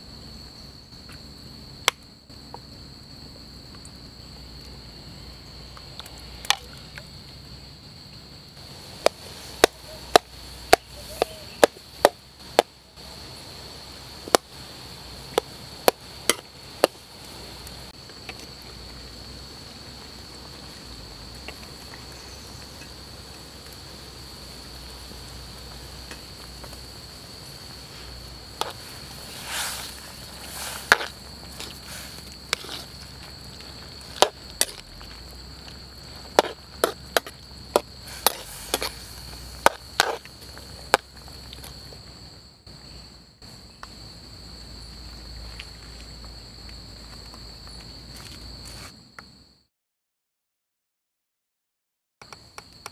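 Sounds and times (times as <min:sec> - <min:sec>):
insects chirring: 0:00.0 - 0:49.7, 0:52.2 - 0:52.9.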